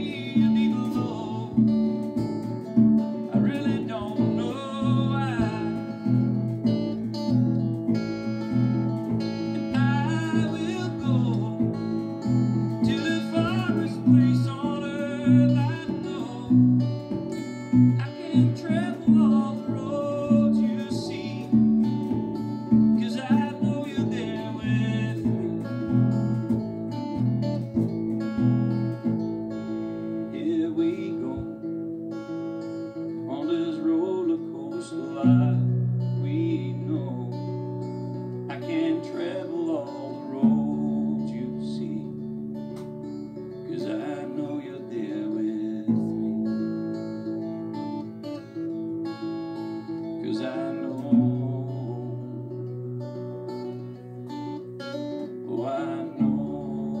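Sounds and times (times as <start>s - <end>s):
person singing: 0.0s - 32.3s, 32.9s - 57.0s
acoustic bass guitar plucked: 0.0s - 57.0s
strummed guitar: 0.0s - 57.0s.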